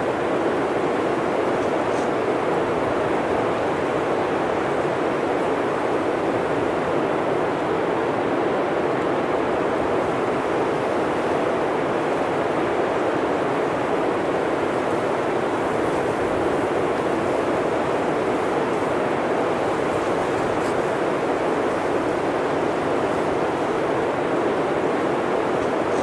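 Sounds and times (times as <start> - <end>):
blizzard wind rushing through forest: 0.0 - 26.0.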